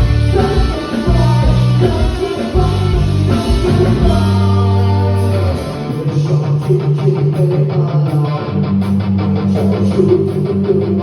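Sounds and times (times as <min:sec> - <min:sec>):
bass line: 0:00.0 - 0:11.0
electric guitar strumming: 0:00.0 - 0:11.0
pop-rock band playing: 0:00.0 - 0:11.0.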